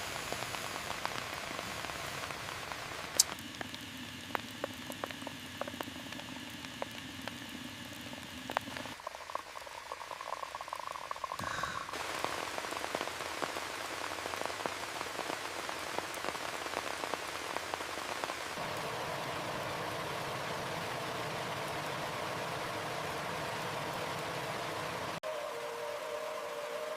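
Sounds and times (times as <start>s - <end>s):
rain falling: 0.0s - 26.9s
raindrops ticking on a surface: 0.1s - 25.2s.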